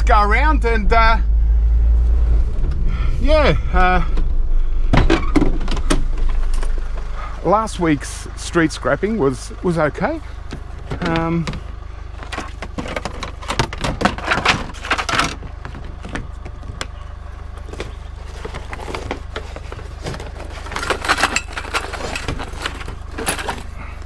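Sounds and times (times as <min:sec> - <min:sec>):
car engine and road rumble: 0:00.0 - 0:24.0
rattling and clicking: 0:02.6 - 0:24.0.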